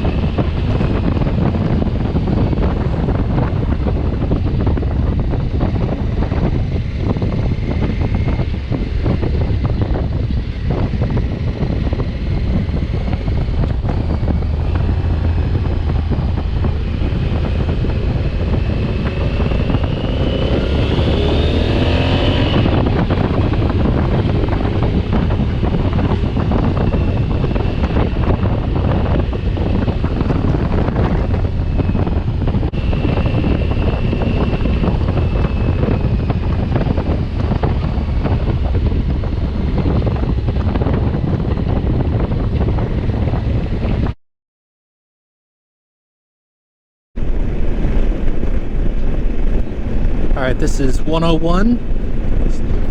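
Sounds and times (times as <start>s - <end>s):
motorcycle engine: 0.0s - 41.0s, 47.2s - 52.9s
road noise: 0.0s - 44.2s, 47.2s - 52.9s
wind rushing over microphone: 0.0s - 44.2s, 47.2s - 52.9s.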